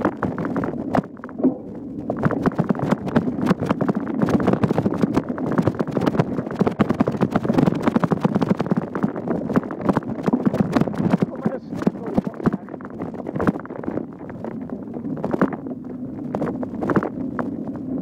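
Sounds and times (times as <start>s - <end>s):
mountain bike rattling over bumps: 0.0s - 18.0s.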